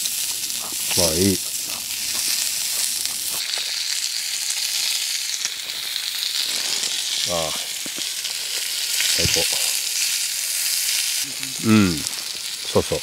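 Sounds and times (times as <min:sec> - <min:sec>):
meat sizzling on griddle: 0:00.0 - 0:13.0.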